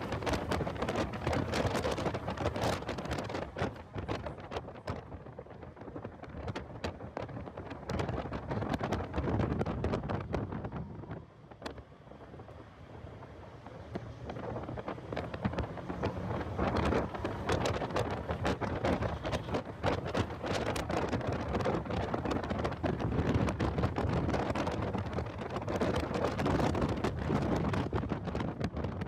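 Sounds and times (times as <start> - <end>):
car vehicle noise: 0.0 - 29.0
wind buffeting microphone: 0.0 - 29.0.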